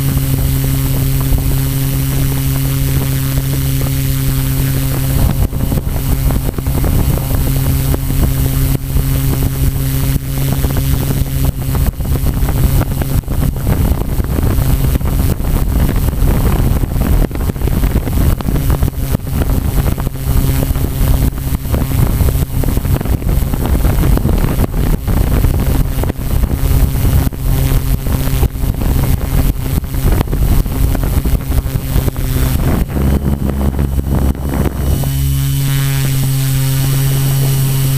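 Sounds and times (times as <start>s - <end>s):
drone motors humming: 0.0s - 37.9s
wind buffeting microphone: 0.0s - 37.9s.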